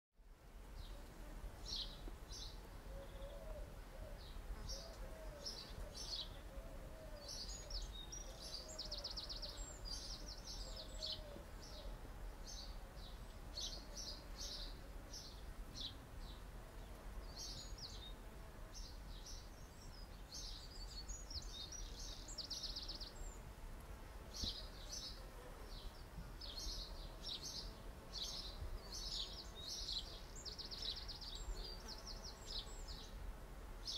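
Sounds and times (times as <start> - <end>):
small birds chirping: 1.6 - 23.4, 24.3 - 33.2.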